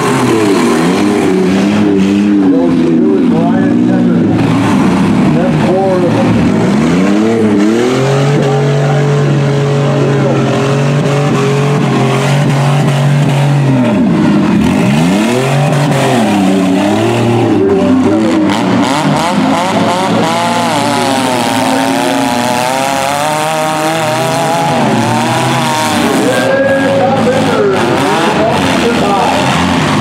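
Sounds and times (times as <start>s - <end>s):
minivan engines revving hard: 0.0s - 30.0s.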